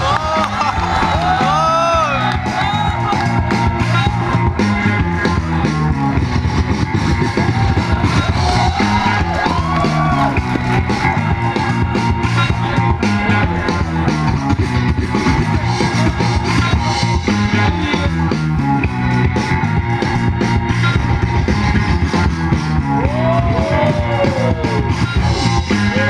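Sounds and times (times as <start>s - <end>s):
loud rock music: 0.0s - 26.0s.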